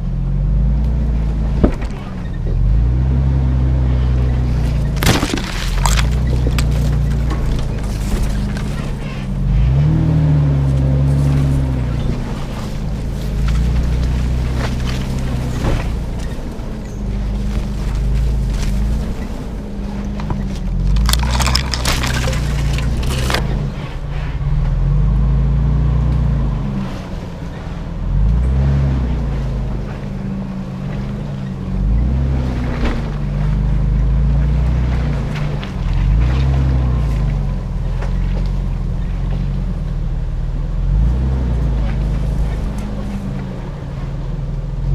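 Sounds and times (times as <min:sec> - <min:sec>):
body and suspension rattles: 0:00.0 - 0:03.2, 0:03.8 - 0:24.8, 0:26.8 - 0:40.7, 0:41.4 - 0:44.9
car engine revving under load: 0:00.0 - 0:44.9.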